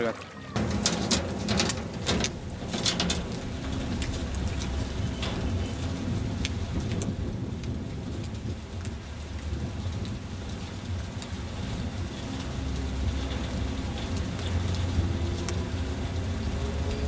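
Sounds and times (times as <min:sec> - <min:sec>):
light rain: 0:00.0 - 0:17.0
wind: 0:00.0 - 0:17.0.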